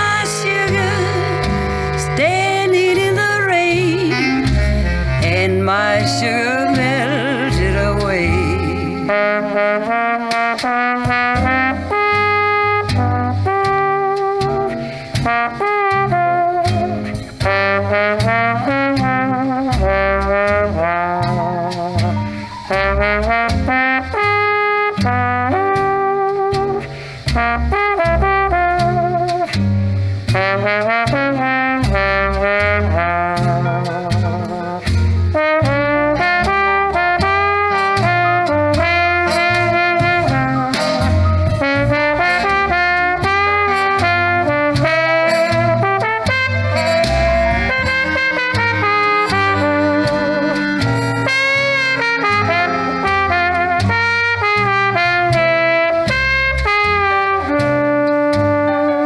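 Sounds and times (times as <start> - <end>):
brass instruments playing jazz: 0.0 - 59.0
rhythm section steady beat: 0.0 - 59.0.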